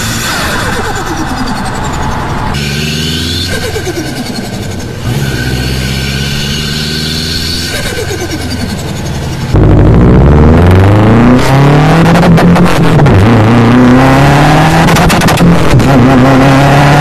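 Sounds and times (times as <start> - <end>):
car engine accelerating: 0.0 - 17.0
loud car engine revving: 0.0 - 17.0.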